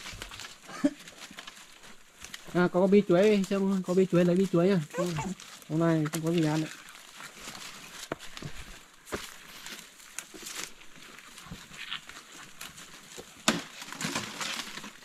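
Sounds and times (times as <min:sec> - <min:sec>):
undergrowth rustling and crackling: 0:00.0 - 0:15.0.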